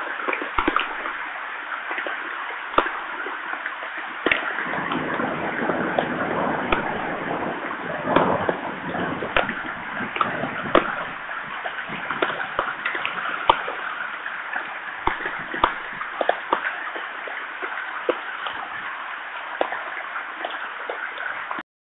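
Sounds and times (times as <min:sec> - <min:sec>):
heavy rain hiss: 0:00.0 - 0:21.6
raindrops tapping: 0:00.0 - 0:21.6.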